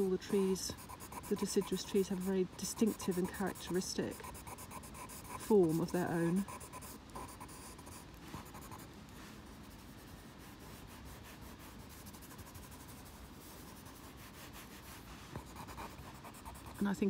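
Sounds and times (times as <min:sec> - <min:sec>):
pencil scratching on paper: 0:00.0 - 0:08.9, 0:09.5 - 0:17.0.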